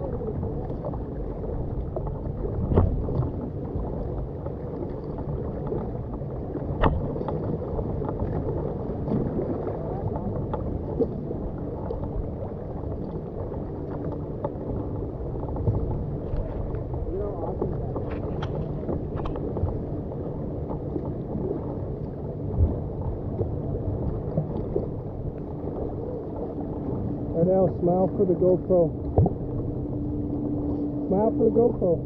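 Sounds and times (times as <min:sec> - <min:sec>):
water splashing against kayak: 0:00.0 - 0:32.0.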